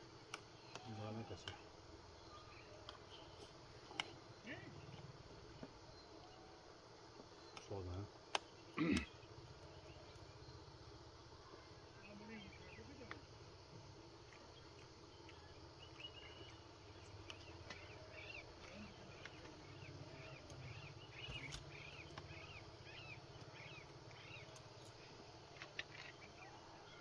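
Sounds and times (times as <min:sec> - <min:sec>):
faint outdoor ambience: 0:00.0 - 0:27.0
bird chirping: 0:00.4 - 0:06.6, 0:07.2 - 0:13.4, 0:14.2 - 0:27.0.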